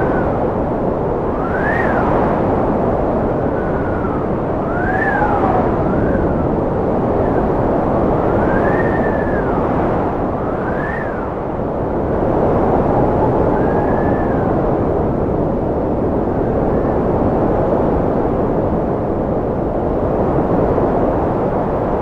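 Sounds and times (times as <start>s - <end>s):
strong wind howling: 0.0s - 22.0s.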